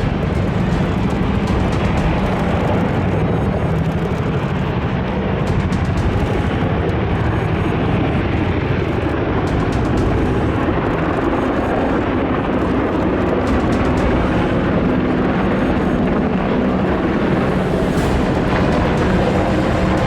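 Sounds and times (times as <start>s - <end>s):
loud steady engine noise: 0.0s - 20.0s.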